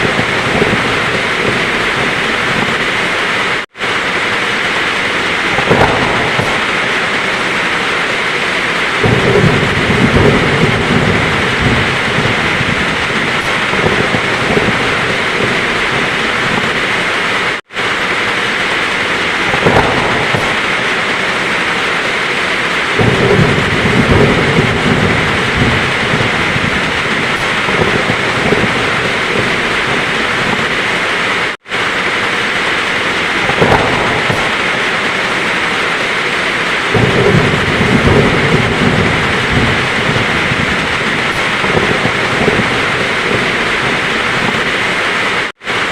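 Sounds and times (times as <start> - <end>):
heavy rain falling: 0.0 - 45.9
thunder rumbling: 0.0 - 45.9.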